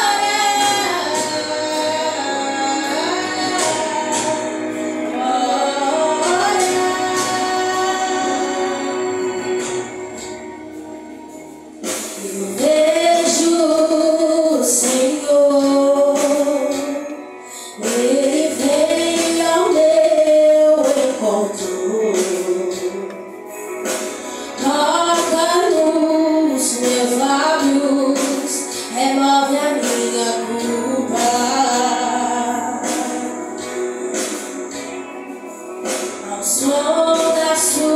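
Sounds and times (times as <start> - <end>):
women singing worship song: 0.0 - 10.8, 11.9 - 23.4, 24.0 - 37.9
instrumental accompaniment: 0.0 - 37.9.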